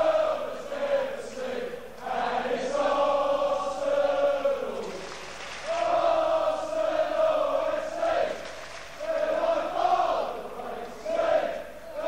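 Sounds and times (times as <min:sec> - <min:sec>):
crowd chanting in unison: 0:00.0 - 0:12.0.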